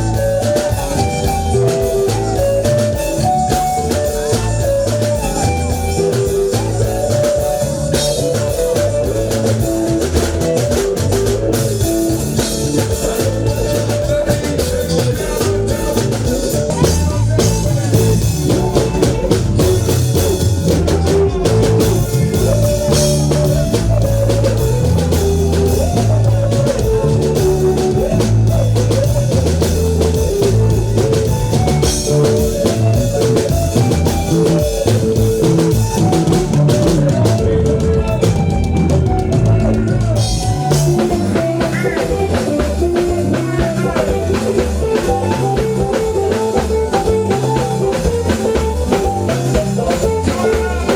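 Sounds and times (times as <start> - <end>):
bass: 0.0 - 50.9
drum kit playing a steady beat: 0.0 - 50.9
electric guitar: 0.0 - 50.9.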